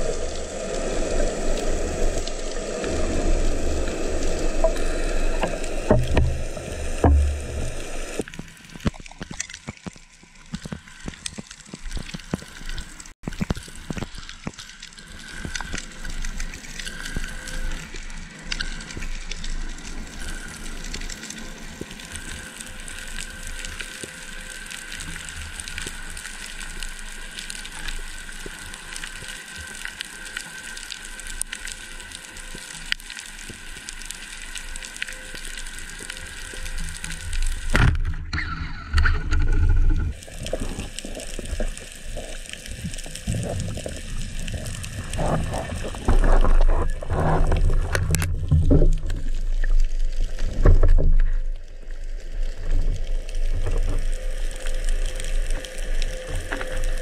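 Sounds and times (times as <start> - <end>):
crackling clicks: 0.0 - 57.0
rush of water: 0.0 - 57.0
underwater water noise: 0.0 - 57.0.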